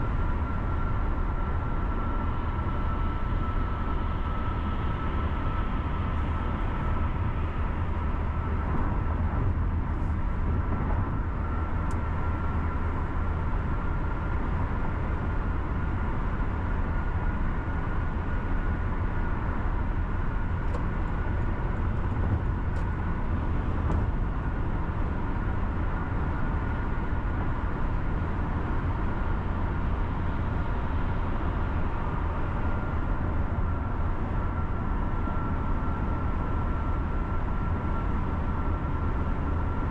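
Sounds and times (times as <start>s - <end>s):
car road and tyre rumble: 0.0s - 39.9s
faint steady whine: 0.0s - 39.9s.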